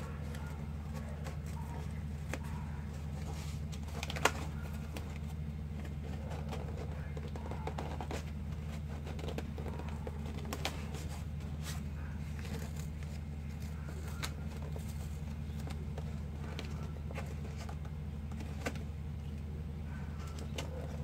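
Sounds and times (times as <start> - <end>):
cardboard crinkling and clicking: 0.0 - 21.0
steady low hum: 0.0 - 21.0.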